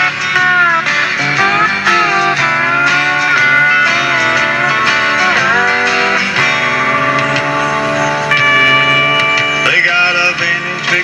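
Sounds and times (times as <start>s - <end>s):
guitar music from radio speaker: 0.0s - 11.0s.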